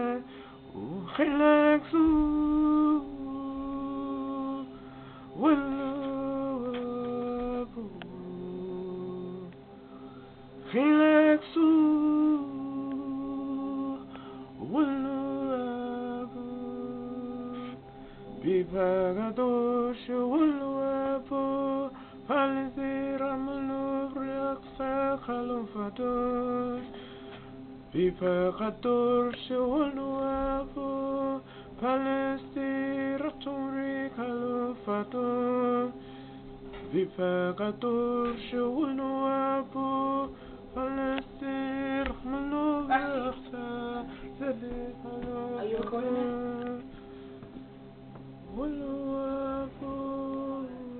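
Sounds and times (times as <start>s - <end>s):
person singing long sliding notes: 0.0s - 36.2s, 36.9s - 47.4s, 48.0s - 50.9s
steady drone: 0.0s - 50.9s.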